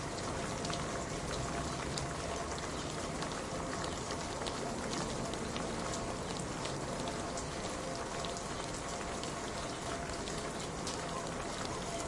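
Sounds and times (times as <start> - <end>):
raindrops ticking on hard surface: 0.0 - 12.0
steady rain hiss: 0.0 - 12.0.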